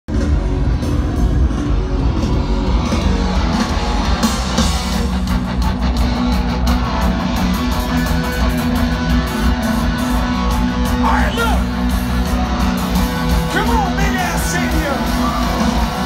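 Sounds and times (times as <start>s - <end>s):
live rock band playing: 0.1s - 16.0s
stadium crowd: 0.1s - 16.0s.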